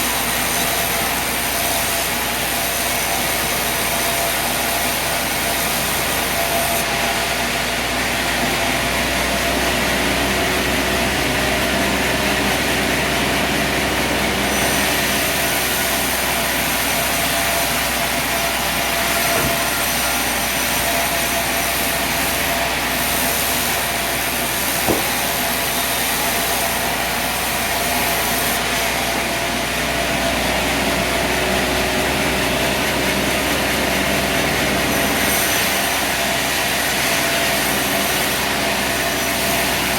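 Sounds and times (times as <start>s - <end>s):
sawmill machine running: 0.0s - 39.9s.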